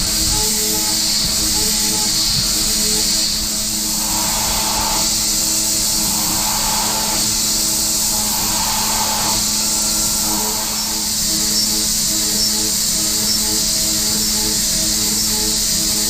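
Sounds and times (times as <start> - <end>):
milling machine spindle whine: 0.0 - 16.0.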